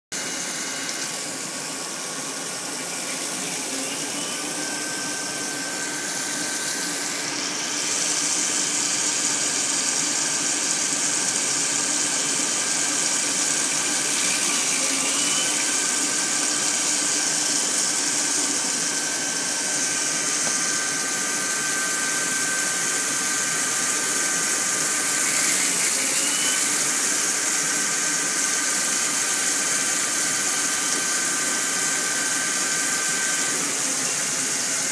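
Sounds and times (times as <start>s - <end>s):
lathe machine whine: 0.1s - 34.9s.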